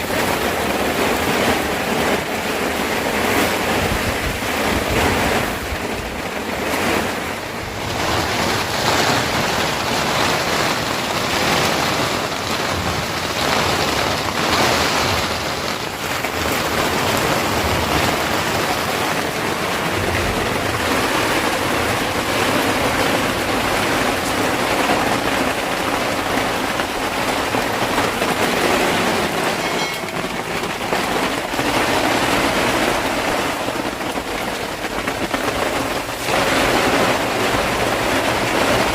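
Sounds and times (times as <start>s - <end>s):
driving rain: 0.0s - 38.9s.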